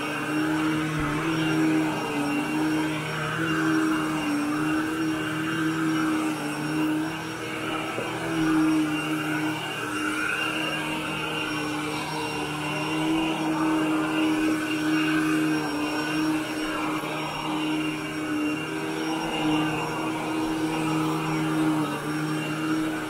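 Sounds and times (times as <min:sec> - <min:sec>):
vacuum cleaner on carpet: 0:00.0 - 0:23.0.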